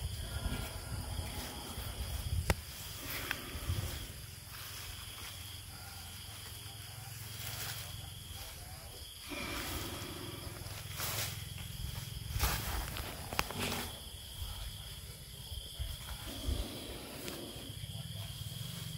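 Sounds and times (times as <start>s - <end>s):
elephant breathing: 0.0s - 6.0s, 9.0s - 11.8s, 12.4s - 18.9s
crickets chirping: 0.0s - 18.9s.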